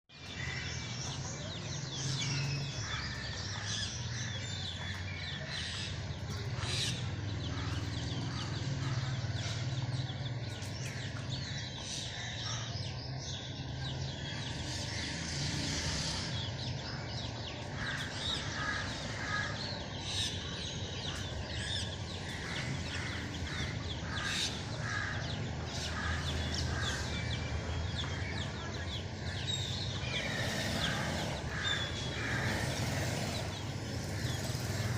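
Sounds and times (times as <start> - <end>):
flock of birds calling: 0.1 - 34.9.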